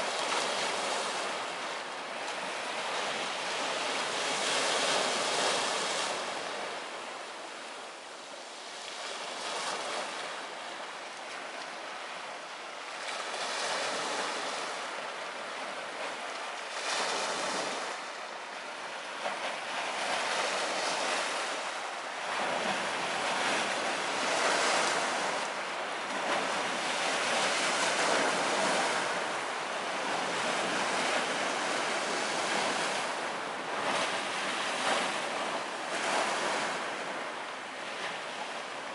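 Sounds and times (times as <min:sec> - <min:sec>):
ocean surf washing ashore: 0:00.0 - 0:38.9.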